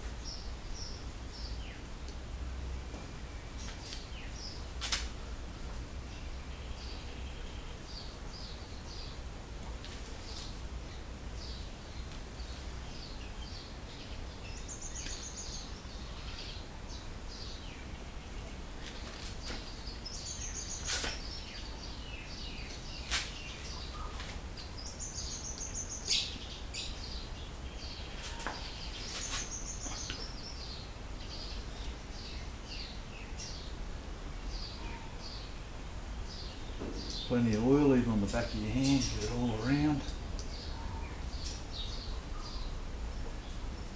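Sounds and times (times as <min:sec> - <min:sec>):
birds chirping and trilling: 0:00.2 - 0:01.9, 0:06.0 - 0:09.3, 0:10.2 - 0:33.8, 0:34.4 - 0:35.6, 0:36.2 - 0:43.9.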